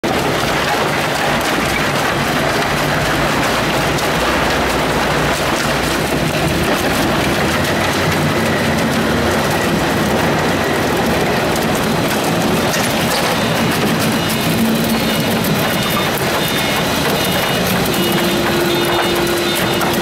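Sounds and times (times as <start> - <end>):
shredder machine grinding: 0.0 - 20.0
wood crackling and splintering: 0.0 - 20.0.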